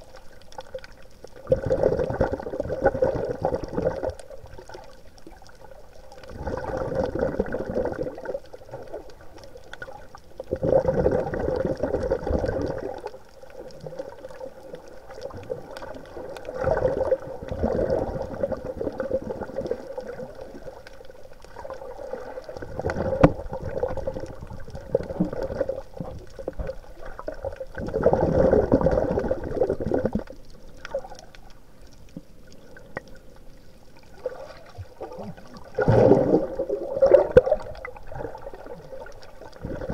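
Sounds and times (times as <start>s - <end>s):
underwater breathing bubbles: 0.7s - 31.5s, 34.0s - 39.9s.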